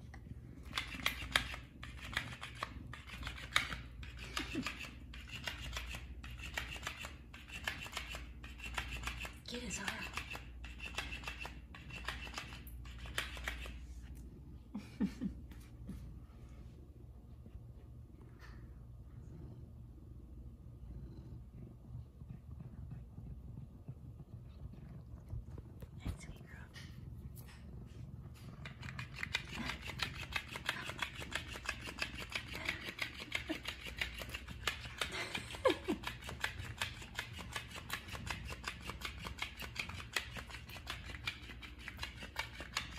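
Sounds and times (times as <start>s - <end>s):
paws and claws on wooden floor: 0.0s - 14.3s, 21.7s - 42.9s.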